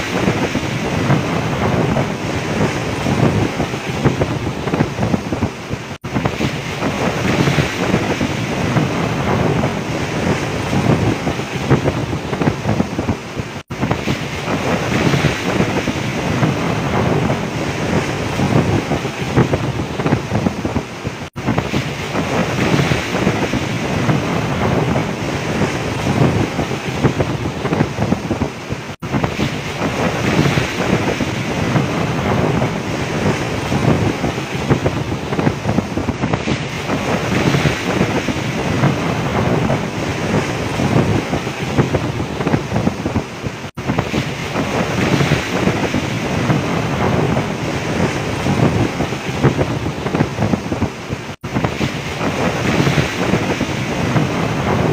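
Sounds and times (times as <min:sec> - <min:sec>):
heavy seas breaking against boat: 0:00.0 - 0:54.9
wind buffeting microphone: 0:00.0 - 0:54.9.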